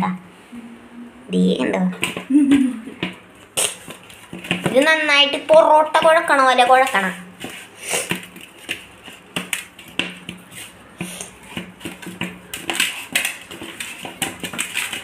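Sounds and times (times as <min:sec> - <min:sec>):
dough knocking and scraping in metal bowl: 0:02.0 - 0:02.3, 0:02.9 - 0:15.0.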